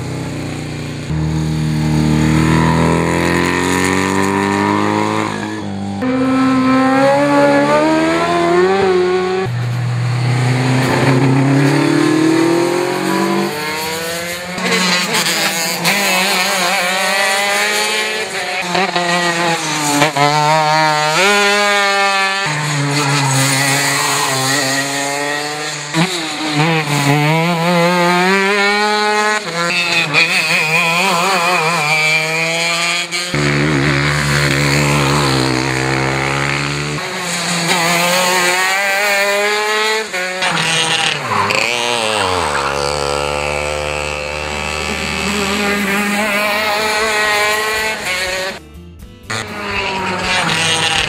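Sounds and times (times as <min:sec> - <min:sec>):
racing kart engines revving: 0:00.0 - 0:48.6, 0:49.3 - 0:51.0.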